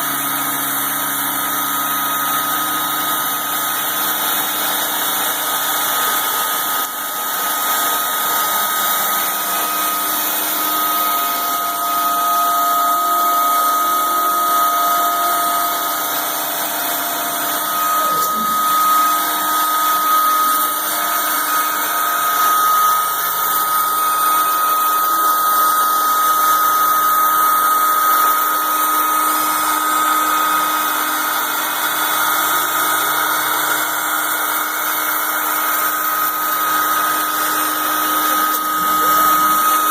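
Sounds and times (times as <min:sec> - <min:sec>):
cnc router spindle whine: 0:00.0 - 0:39.9.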